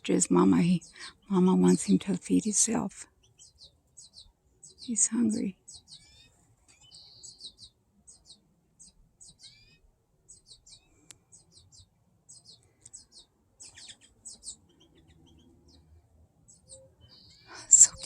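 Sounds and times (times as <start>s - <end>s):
fledgling bird begging chirps: 3.2s - 18.0s.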